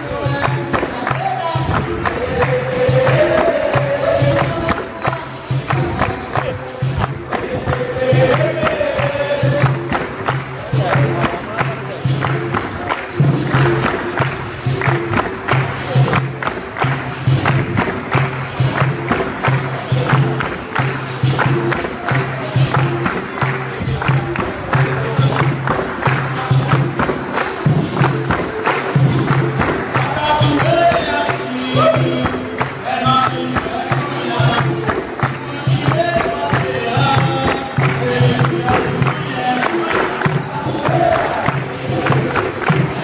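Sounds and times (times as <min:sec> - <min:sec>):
berimbau playing repeating notes: 0:00.0 - 0:43.0.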